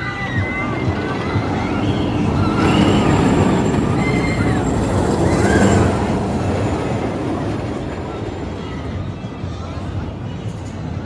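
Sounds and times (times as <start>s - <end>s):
roller coaster rumble: 0.0s - 11.0s.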